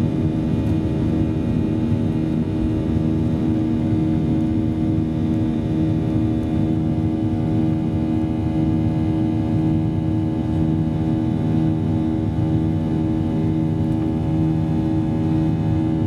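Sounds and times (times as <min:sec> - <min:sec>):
jet cabin drone: 0:00.0 - 0:16.0.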